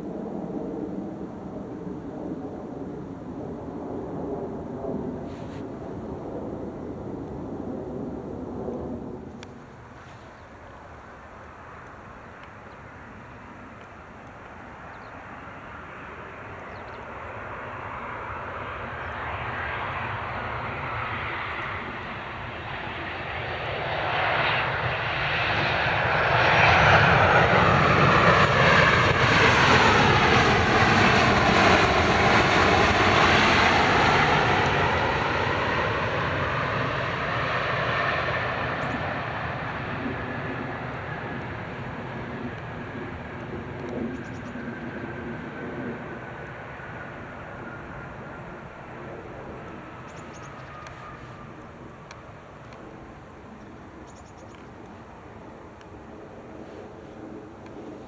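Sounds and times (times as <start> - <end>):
jet engines passing by: 0.0 - 58.0.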